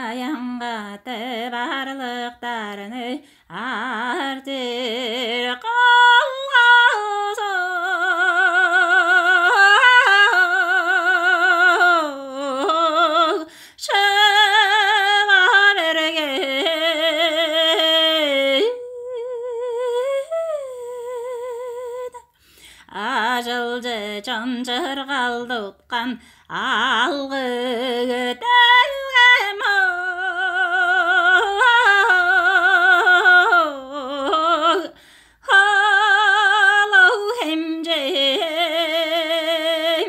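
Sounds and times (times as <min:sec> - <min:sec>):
woman singing unaccompanied: 0:00.0 - 0:40.0.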